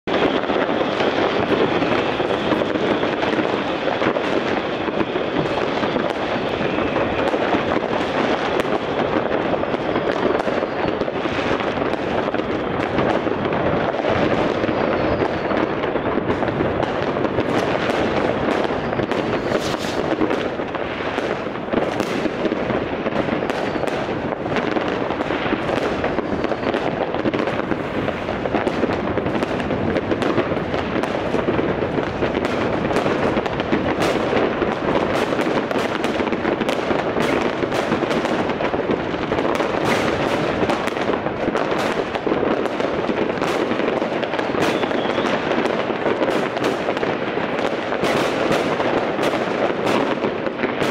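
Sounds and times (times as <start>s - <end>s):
fireworks crackling and banging: 0.0s - 50.9s
sharp firecracker cracks: 0.1s - 50.9s.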